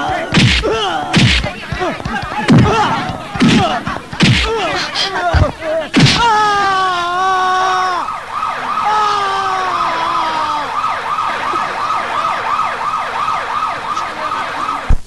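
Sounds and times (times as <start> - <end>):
emergency vehicle siren: 0.0 - 15.0.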